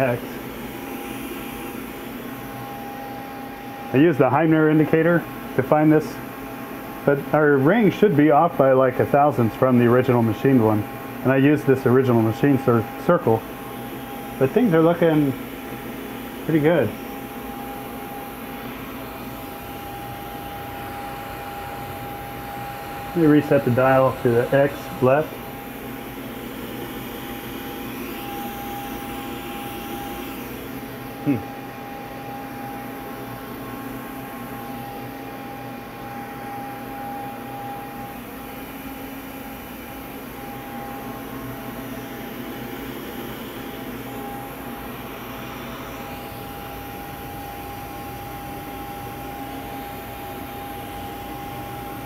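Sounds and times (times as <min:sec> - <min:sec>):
machinery hum and hiss: 0:00.0 - 0:52.0.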